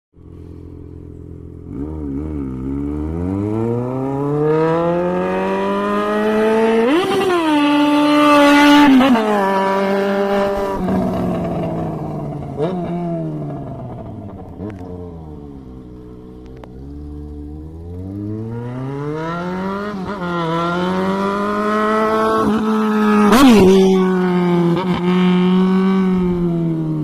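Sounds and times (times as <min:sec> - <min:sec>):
motorcycle engine revving: 0:00.2 - 0:27.0.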